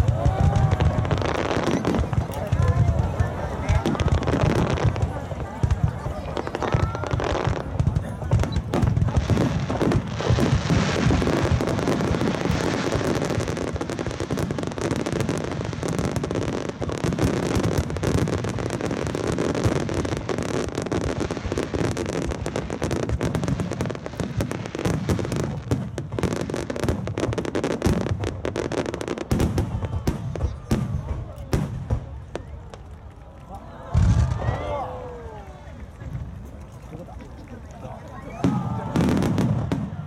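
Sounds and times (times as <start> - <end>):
deep fireworks booms: 0.0 - 33.1, 33.8 - 35.4, 38.3 - 40.0
fireworks bangs and crackling: 0.0 - 40.0.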